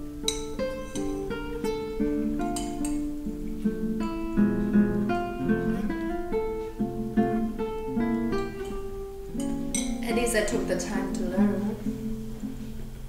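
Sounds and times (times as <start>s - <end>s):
plucked acoustic guitar: 0.0s - 13.0s.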